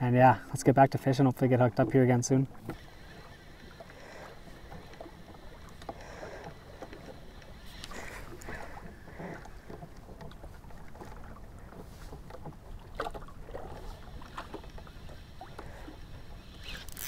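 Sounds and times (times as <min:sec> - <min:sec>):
low rumble of water and wind: 0:00.0 - 0:17.0.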